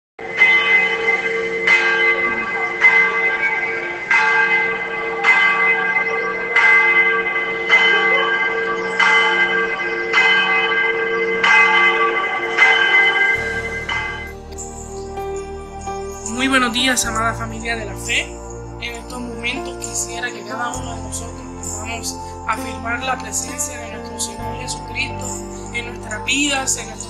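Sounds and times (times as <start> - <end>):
church bell ringing: 0.2 - 27.0.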